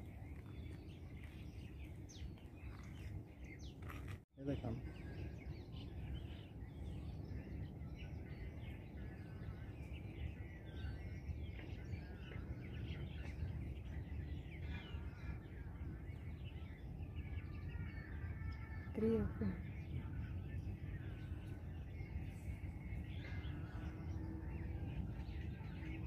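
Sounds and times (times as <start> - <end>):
bird chirps and calls: 0.0 - 26.0
low background rumble: 0.0 - 26.0.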